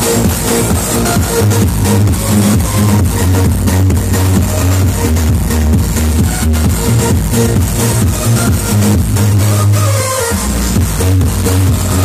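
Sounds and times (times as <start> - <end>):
loud electronic dance music: 0.0 - 12.0.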